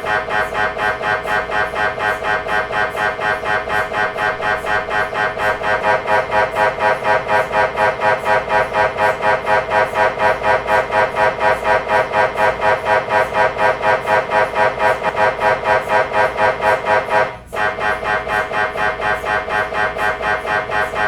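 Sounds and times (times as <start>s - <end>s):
mri scanner rhythmic buzzing: 0.0s - 21.0s.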